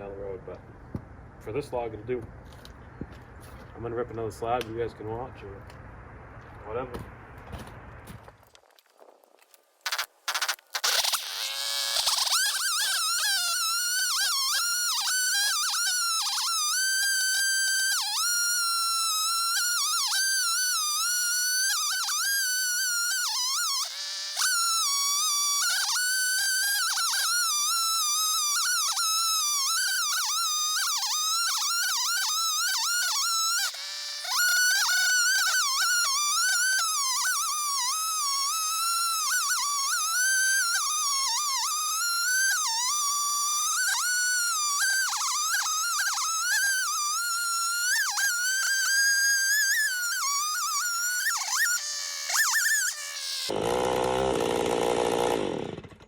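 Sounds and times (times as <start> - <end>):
chainsaw cutting log with high whine: 9.6 - 56.0.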